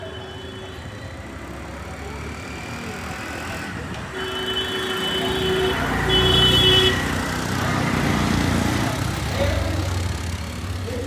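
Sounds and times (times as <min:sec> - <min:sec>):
traffic running: 0:00.0 - 0:11.0.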